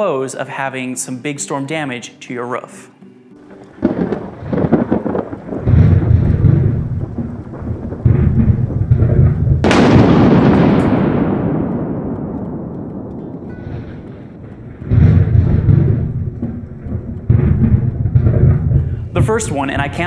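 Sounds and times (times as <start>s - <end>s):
rain: 3.4s - 20.0s
rolling thunder: 3.6s - 20.0s
sharp thunderclap: 3.8s - 20.0s.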